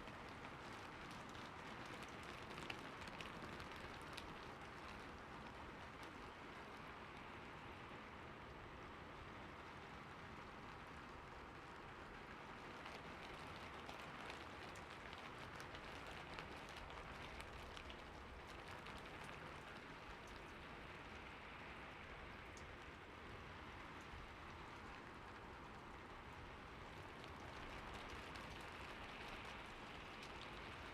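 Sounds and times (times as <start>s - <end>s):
rain falling on a rooftop: 0.0s - 30.9s.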